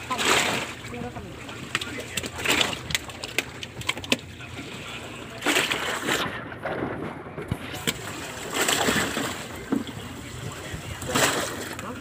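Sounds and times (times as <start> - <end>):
water sloshing around wooden boat: 0.0 - 12.0.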